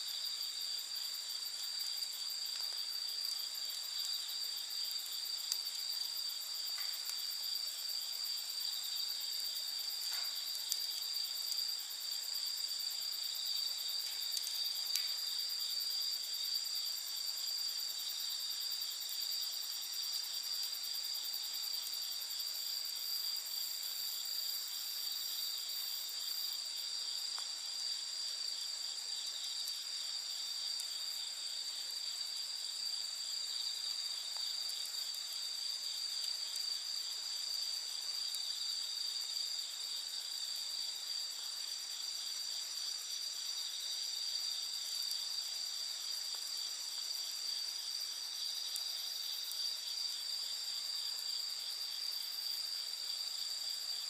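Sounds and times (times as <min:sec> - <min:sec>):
campfire crackles: 0:00.0 - 0:54.0
night insects trilling: 0:00.0 - 0:54.0.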